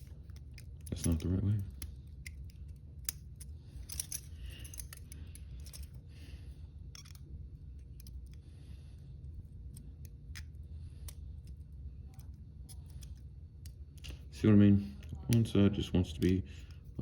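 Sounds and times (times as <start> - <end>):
lock picks clicking and scraping: 0.0 - 14.2
steady low hum: 0.0 - 17.0.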